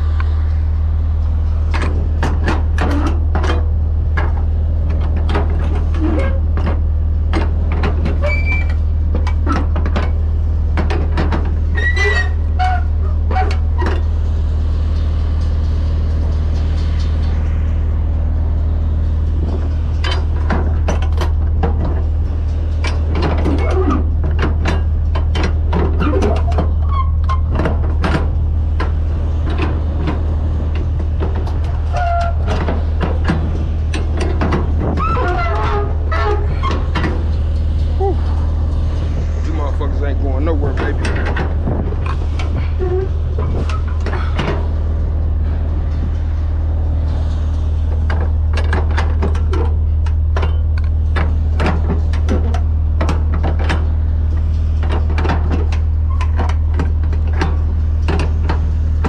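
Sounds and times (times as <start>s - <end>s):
low engine hum: 0.0s - 59.0s.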